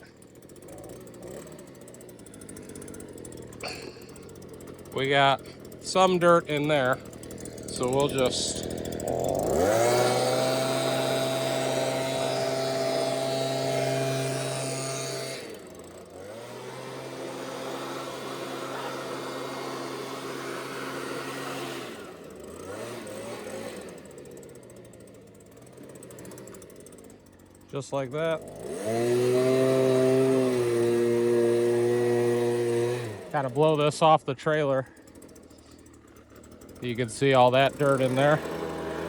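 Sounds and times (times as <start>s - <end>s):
leaf blower engine revving: 0.0s - 39.0s.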